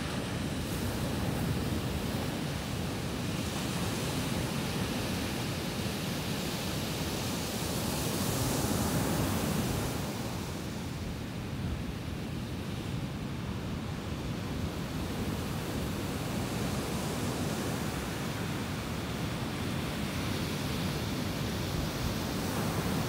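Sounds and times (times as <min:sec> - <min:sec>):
ocean waves breaking on beach: 0:00.0 - 0:23.0.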